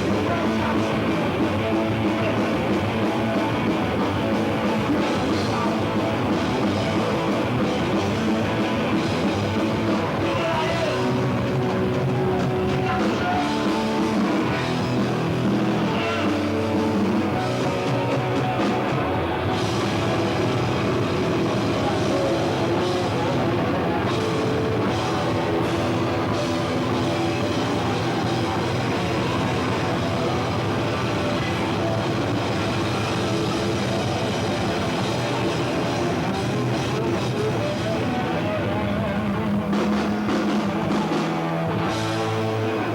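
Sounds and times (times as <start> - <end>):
punk band playing live: 0.0 - 42.9.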